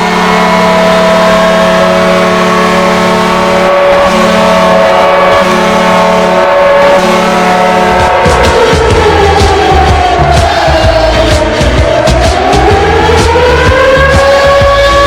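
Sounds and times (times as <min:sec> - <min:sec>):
hockey goal horn: 0:00.0 - 0:15.0.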